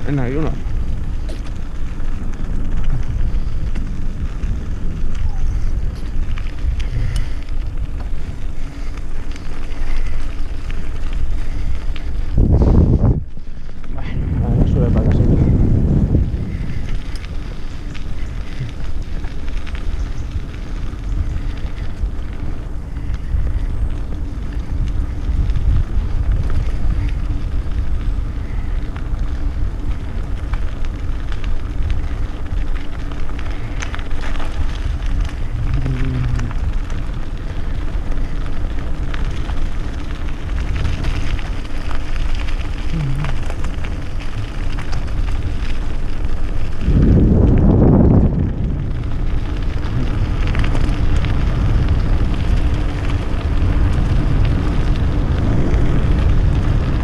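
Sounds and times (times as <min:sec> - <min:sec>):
bike clicks and rattles: 0:00.0 - 0:57.0
tyres crunching on gravel: 0:00.0 - 0:57.0
wind rumble on microphone: 0:00.0 - 0:57.0.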